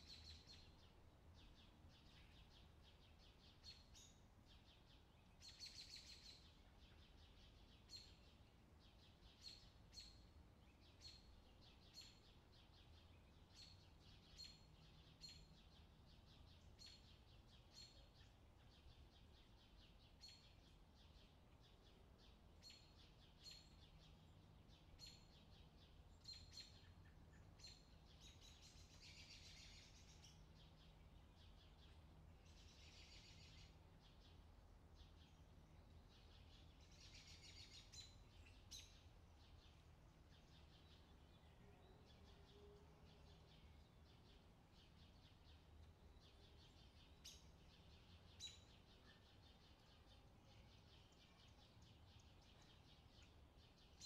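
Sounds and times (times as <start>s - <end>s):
bird chirping: 0.0s - 54.0s
low steady hum: 0.0s - 54.0s.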